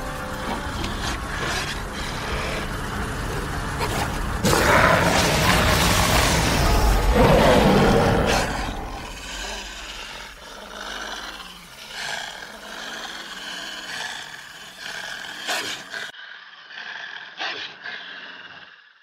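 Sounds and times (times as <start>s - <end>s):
large beast roaring and growling: 0.0s - 16.1s.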